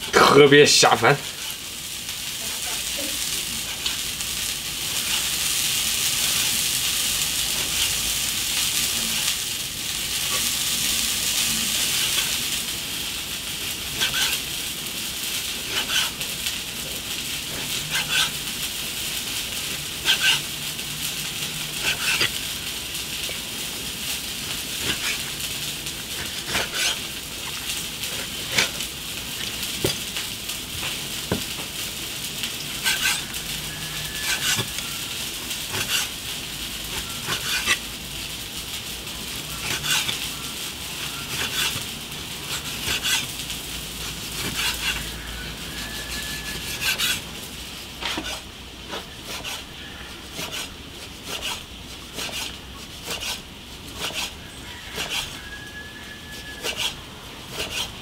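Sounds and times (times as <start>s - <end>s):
food sizzling in wok: 0.0s - 58.0s.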